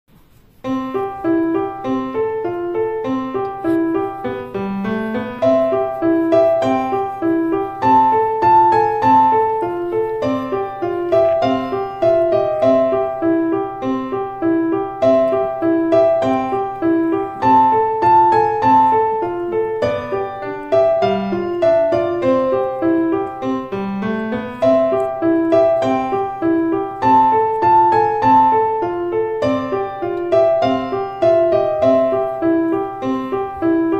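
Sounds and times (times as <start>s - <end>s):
piano music: 0.1s - 33.9s.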